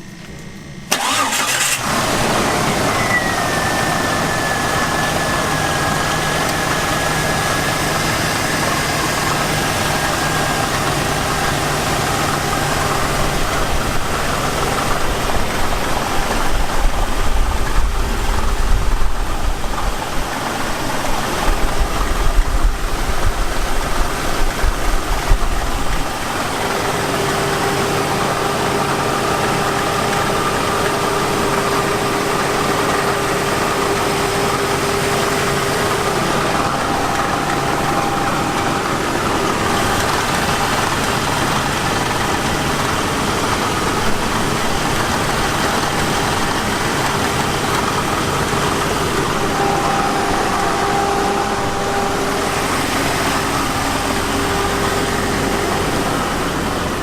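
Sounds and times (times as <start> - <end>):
car engine idling: 0.0 - 57.0
high whine: 0.0 - 57.0.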